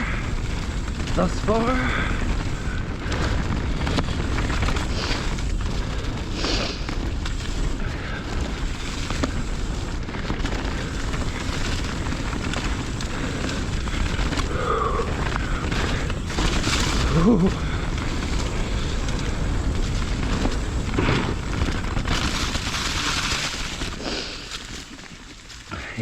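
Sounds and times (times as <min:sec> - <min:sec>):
wind rumbling on microphone: 0:00.0 - 0:24.6
bike knocks and rattles: 0:00.0 - 0:24.8
tyres rolling over gravel: 0:00.0 - 0:26.0.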